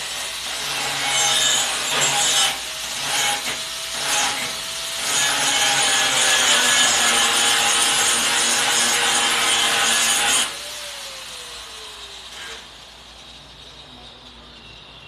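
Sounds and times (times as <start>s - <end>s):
power grinder grinding metal: 0.0s - 15.0s.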